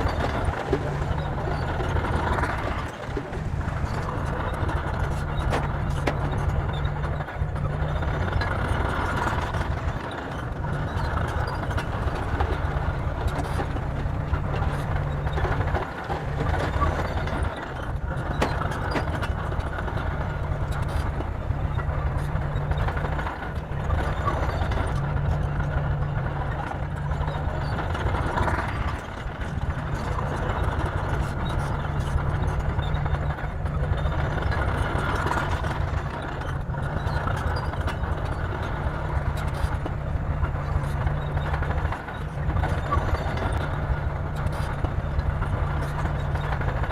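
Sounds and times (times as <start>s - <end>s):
bulldozer diesel engine rumbling: 0.0s - 46.9s.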